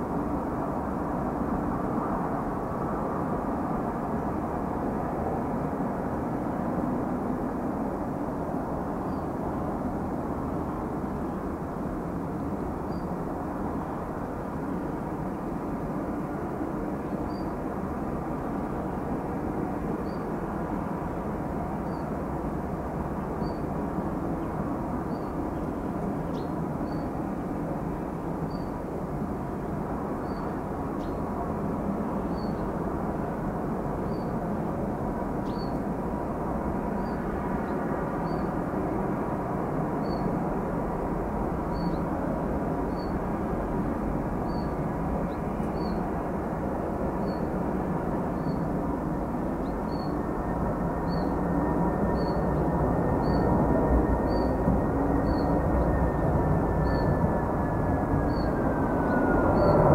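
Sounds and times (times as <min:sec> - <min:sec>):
distant jet engines rumbling: 0:08.6 - 0:59.9.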